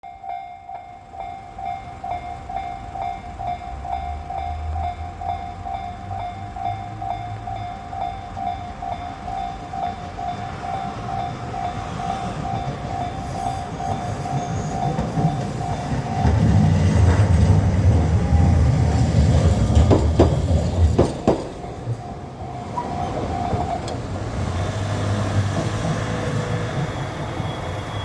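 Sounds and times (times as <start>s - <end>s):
crossing bell ringing: 0.0s - 28.0s
train rumbling: 1.0s - 28.0s
train wheels clacking: 1.6s - 28.0s.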